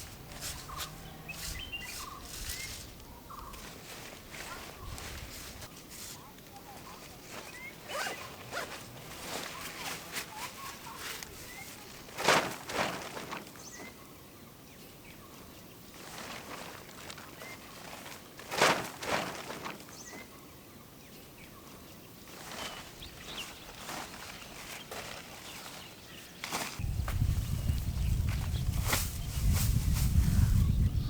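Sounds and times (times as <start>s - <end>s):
footsteps rustling through vegetation: 0.0s - 14.0s, 15.6s - 20.5s, 21.6s - 31.0s.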